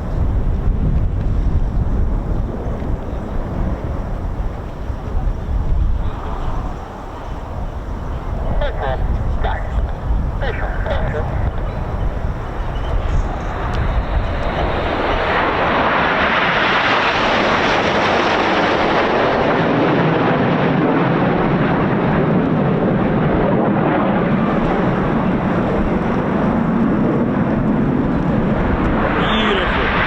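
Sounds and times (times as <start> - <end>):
jets flying past: 0.0 - 30.0
wind rumbling on microphone: 0.0 - 30.0.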